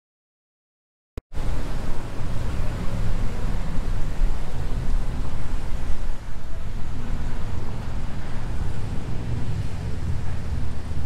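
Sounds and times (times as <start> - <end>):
cars passing on wet street: 1.3 - 11.0
wind noise on microphone: 1.3 - 11.0.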